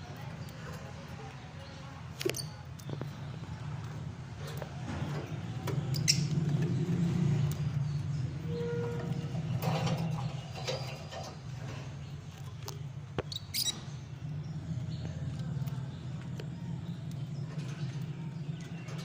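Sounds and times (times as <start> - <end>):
steady low hum: 0.0 - 19.0
lovebirds chirping: 0.1 - 19.0.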